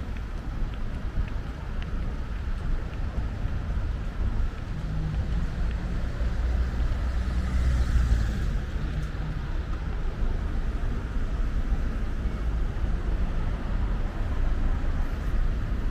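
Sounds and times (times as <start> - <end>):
road traffic drone: 0.0 - 15.9.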